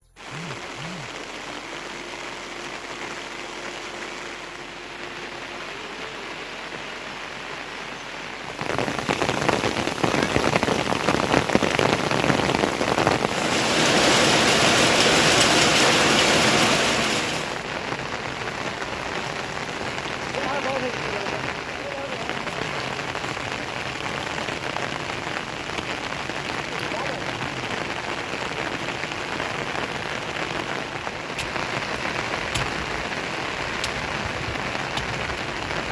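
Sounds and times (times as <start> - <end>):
rain falling steadily: 0.0 - 35.9.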